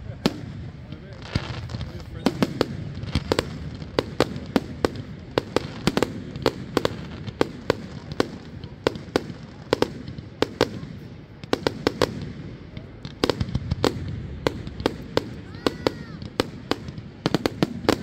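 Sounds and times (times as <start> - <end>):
fireworks bursting with sharp bangs: 0.0 - 18.0.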